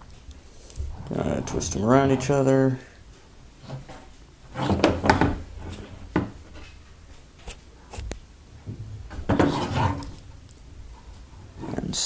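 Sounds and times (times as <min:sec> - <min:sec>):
rubbing and rustling of wires: 0:00.0 - 0:02.8, 0:03.6 - 0:08.2, 0:09.0 - 0:12.0.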